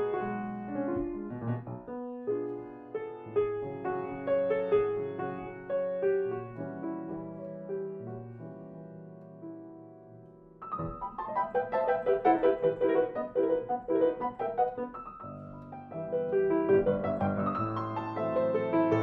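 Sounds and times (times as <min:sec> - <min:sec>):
low piano chords: 0:00.0 - 0:19.0.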